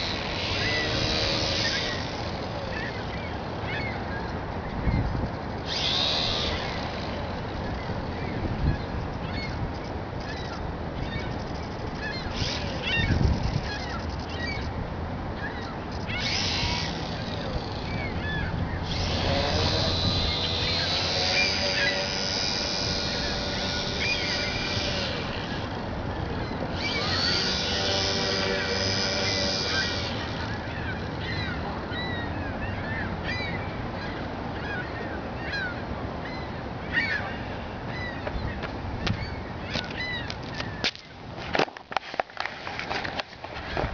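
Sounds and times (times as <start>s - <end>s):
birds chirping: 0.0s - 14.8s, 15.4s - 41.0s
small motor and propeller whine: 0.0s - 43.9s.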